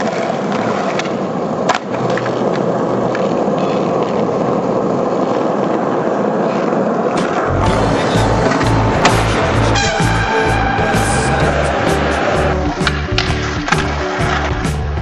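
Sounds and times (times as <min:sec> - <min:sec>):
sharp skateboard clack: 0:00.0 - 0:10.1, 0:11.6 - 0:14.9
skateboard wheels rolling on pavement: 0:00.0 - 0:15.0.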